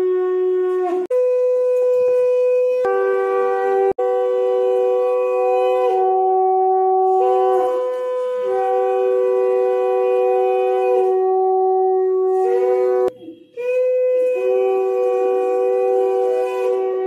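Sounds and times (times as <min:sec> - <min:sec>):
reedy wind instrument playing: 0:00.0 - 0:17.0.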